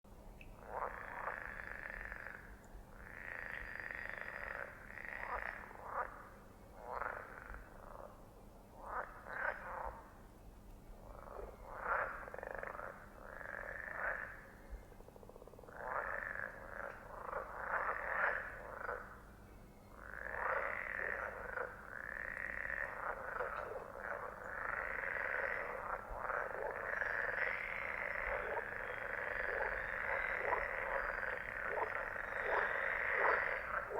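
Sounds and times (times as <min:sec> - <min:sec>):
frogs croaking: 0:00.4 - 0:10.3, 0:11.0 - 0:33.9.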